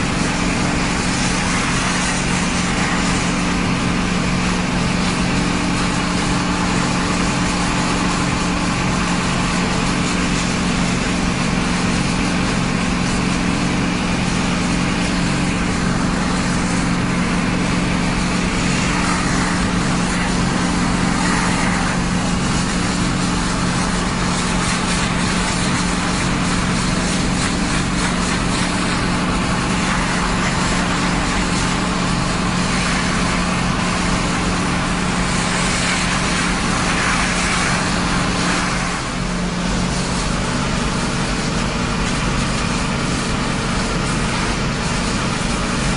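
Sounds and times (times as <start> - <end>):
water spraying from hose: 0.0 - 45.9.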